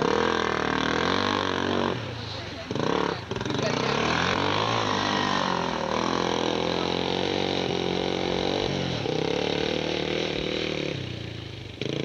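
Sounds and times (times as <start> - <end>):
small engines revving in mud: 0.0 - 12.0.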